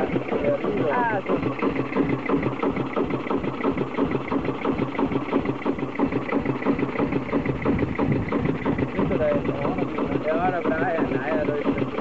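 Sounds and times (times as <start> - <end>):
stationary engine running: 0.0 - 12.0.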